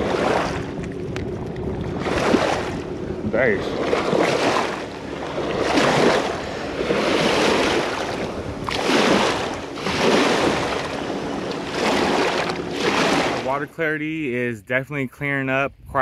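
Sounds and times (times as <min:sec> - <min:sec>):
small waves washing on rocks: 0:00.0 - 0:02.8, 0:03.4 - 0:13.5.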